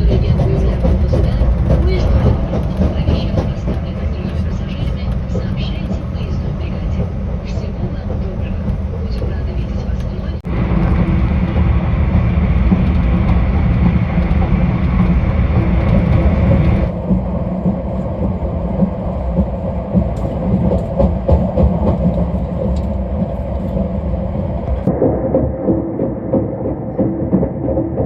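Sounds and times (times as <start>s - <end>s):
train rumble with hiss: 0.0s - 24.9s.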